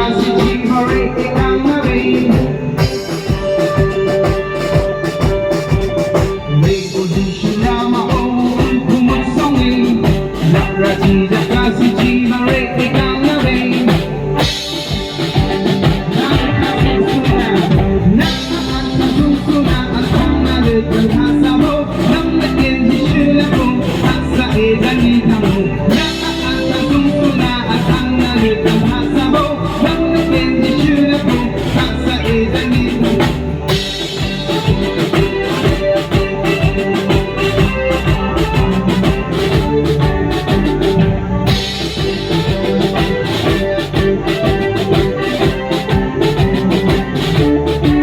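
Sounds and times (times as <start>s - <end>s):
drum kit: 0.0s - 48.0s
guitar: 0.0s - 48.0s
person singing: 0.0s - 48.0s.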